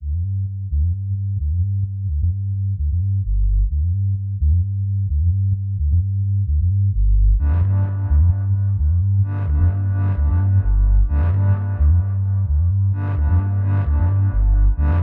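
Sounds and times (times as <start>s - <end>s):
synthesizer bass line: 1.4s - 15.0s.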